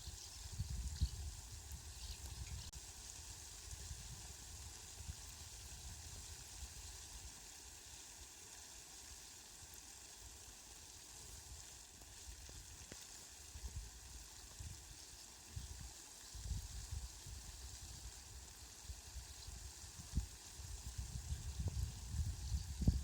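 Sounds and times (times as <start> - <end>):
rain hissing: 0.0 - 23.0.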